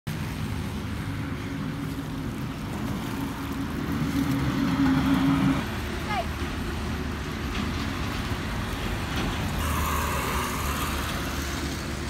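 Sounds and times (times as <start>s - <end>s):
engine humming: 0.4s - 12.0s.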